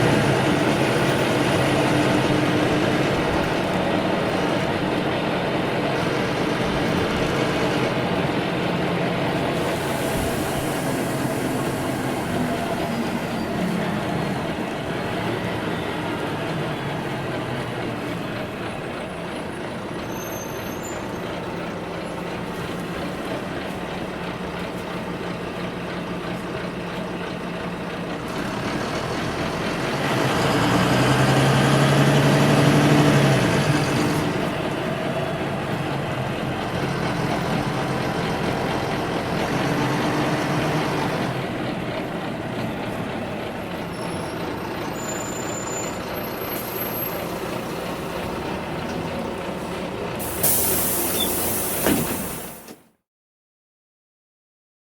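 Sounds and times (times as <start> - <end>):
road noise: 0.0 - 52.8
bus engine: 0.0 - 53.0.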